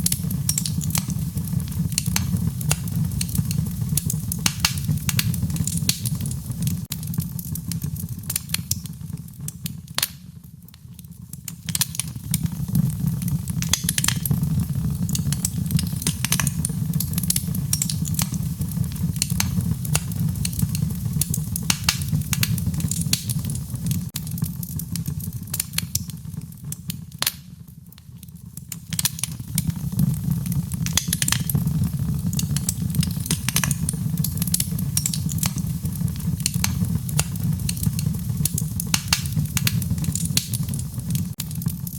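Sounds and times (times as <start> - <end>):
low rumble of burning: 0.0 - 41.9
wood fire crackling and popping: 0.0 - 41.9.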